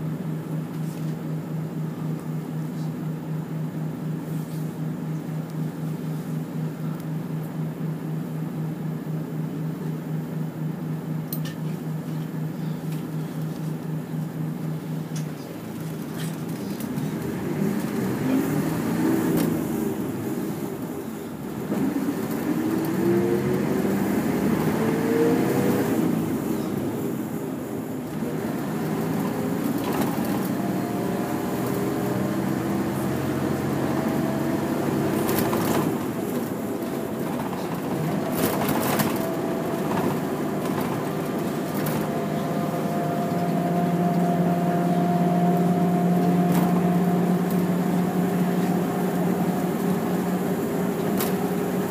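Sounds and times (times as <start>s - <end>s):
bus diesel engine: 0.0s - 51.9s.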